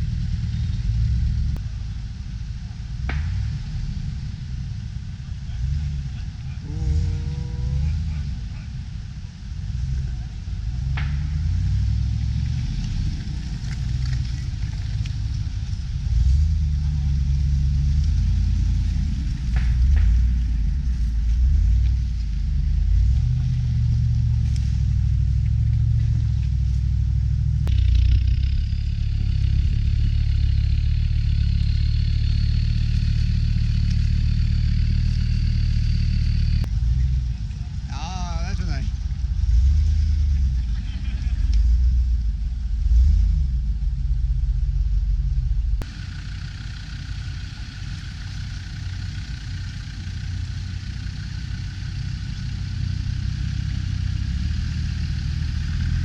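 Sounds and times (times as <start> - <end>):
car engine revving: 0.0 - 56.0
steady high whine: 0.0 - 56.0.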